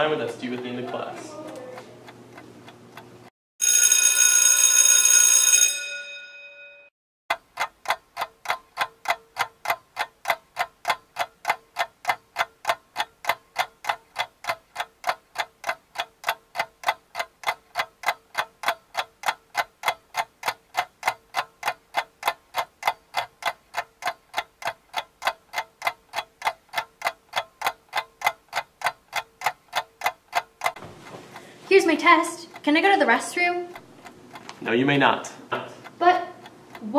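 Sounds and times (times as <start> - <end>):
clock ticking quickly: 0.0 - 3.1, 7.3 - 36.9.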